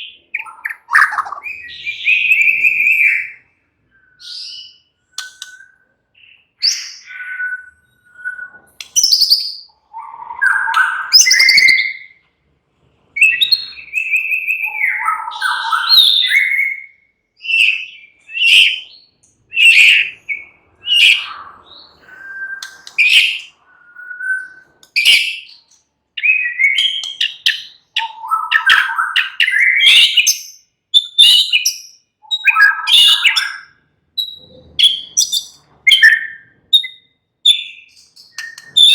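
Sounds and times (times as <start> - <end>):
bird singing whistled phrases: 0.0 - 12.2, 13.2 - 38.9.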